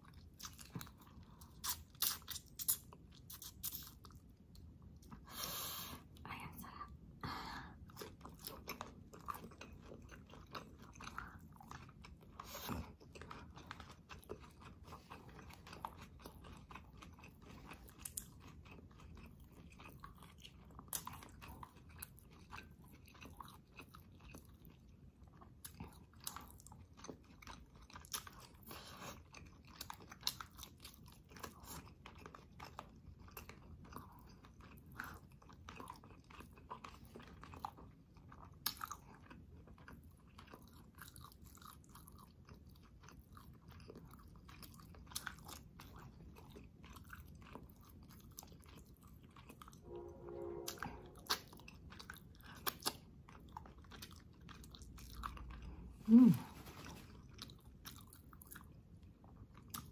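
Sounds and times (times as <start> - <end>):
close-miked chewing: 0.0 - 6.8, 7.8 - 49.9, 50.6 - 59.9.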